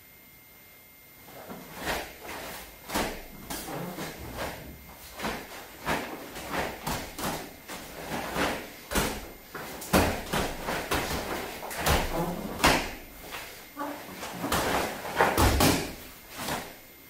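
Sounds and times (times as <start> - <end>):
bare feet thudding on mat: 1.3 - 16.8.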